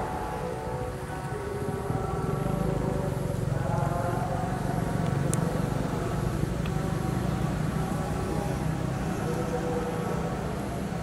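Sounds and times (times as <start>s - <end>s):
distant road traffic rumble: 0.0s - 11.0s
faint voices: 0.0s - 11.0s.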